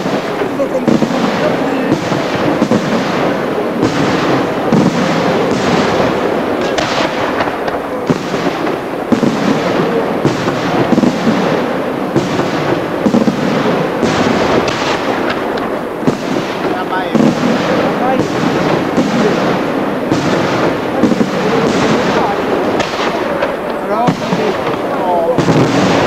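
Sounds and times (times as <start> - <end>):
firework shells bursting: 0.0 - 26.0.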